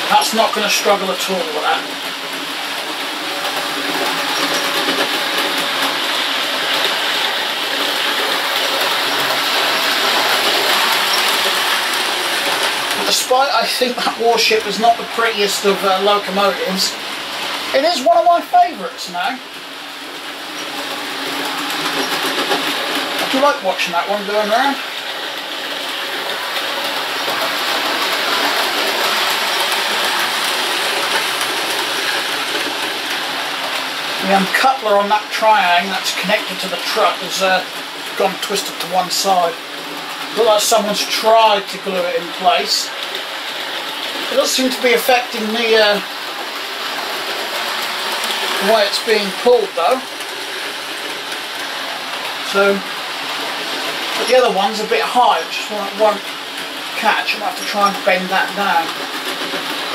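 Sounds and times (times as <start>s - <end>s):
wheels ticking over track: 0.0s - 59.9s
model train motor whirring: 0.1s - 16.3s, 19.1s - 59.9s.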